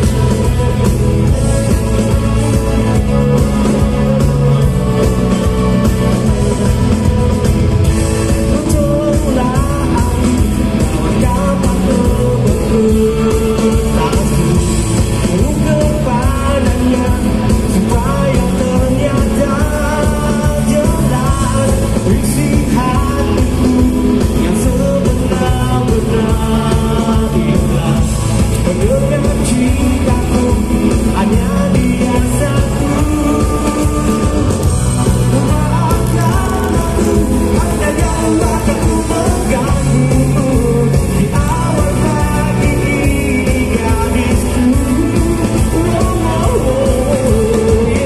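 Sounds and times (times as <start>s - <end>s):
live rock band with orchestra: 0.0s - 48.0s
man singing lead vocals: 0.0s - 48.0s.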